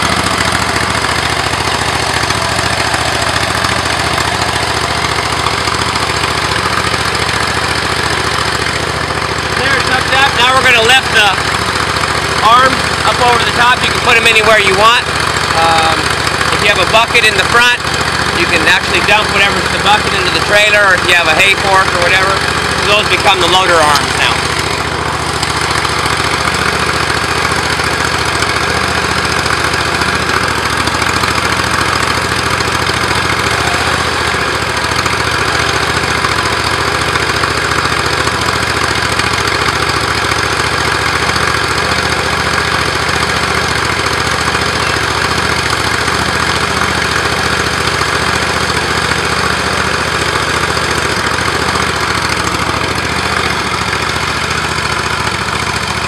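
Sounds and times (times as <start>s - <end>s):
tractor engine running steadily: 0.0s - 56.0s.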